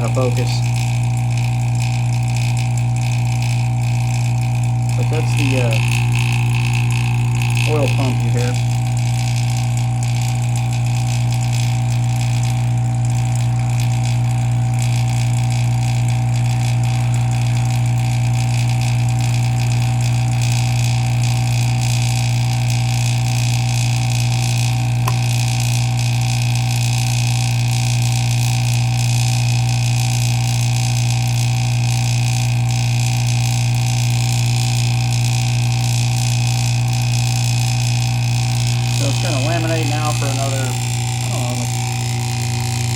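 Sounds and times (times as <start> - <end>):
vacuum pump humming: 0.0 - 42.9.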